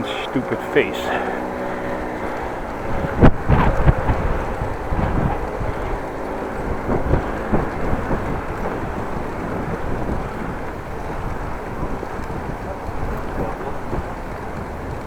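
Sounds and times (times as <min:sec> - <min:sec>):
wind buffeting microphone: 0:01.3 - 0:15.0.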